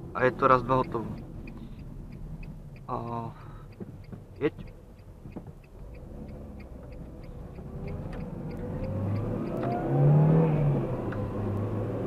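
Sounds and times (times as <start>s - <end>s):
car engine accelerating: 0.0s - 12.0s
fast regular ticking: 0.1s - 9.9s.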